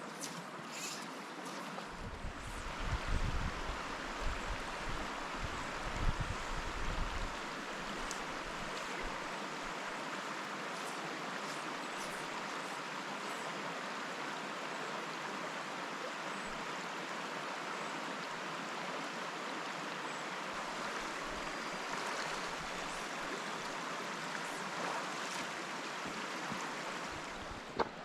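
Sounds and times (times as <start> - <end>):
brook water rushing: 0.0 - 28.0.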